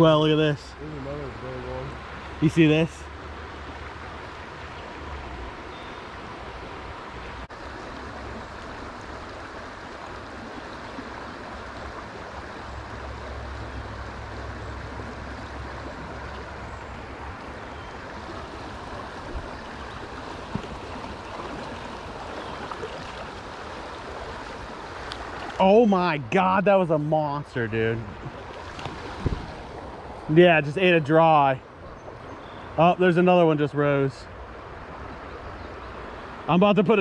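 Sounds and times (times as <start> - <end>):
creek water flowing: 0.0 - 37.0.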